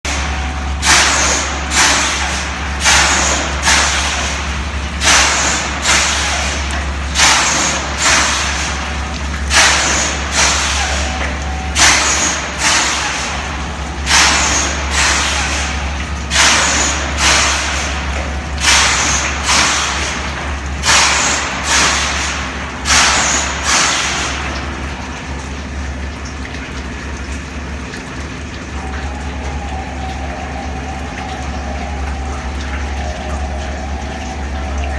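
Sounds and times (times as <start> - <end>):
machinery low hum: 0.0 - 34.9.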